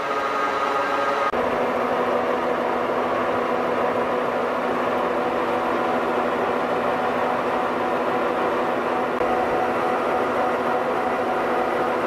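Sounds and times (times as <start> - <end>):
lathe gearing whine: 0.0 - 12.0
low mechanical hum: 0.0 - 12.0.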